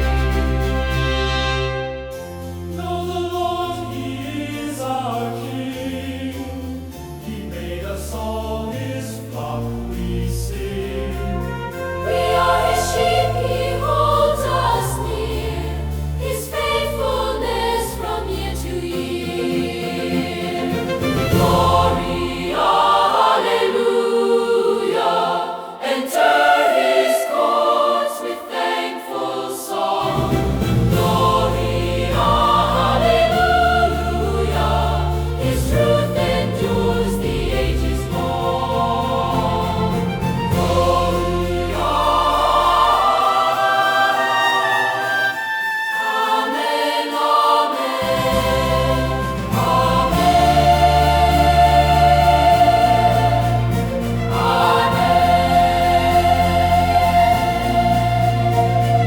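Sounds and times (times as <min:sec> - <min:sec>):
choir singing: 0:00.0 - 0:59.0
instrumental accompaniment: 0:00.0 - 0:59.0.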